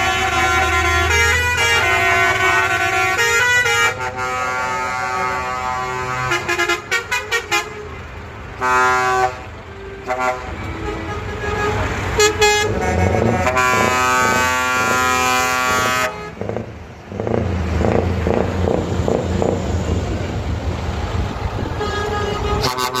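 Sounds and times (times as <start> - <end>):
truck air horns: 0.0 - 19.6, 21.6 - 23.0
diesel truck engine rumble: 0.0 - 23.0.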